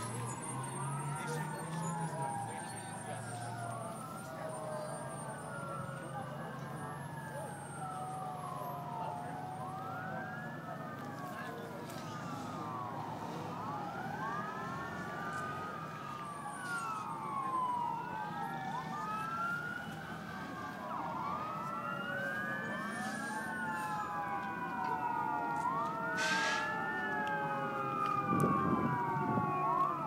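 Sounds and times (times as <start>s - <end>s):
emergency vehicle sirens wailing: 0.0s - 30.0s.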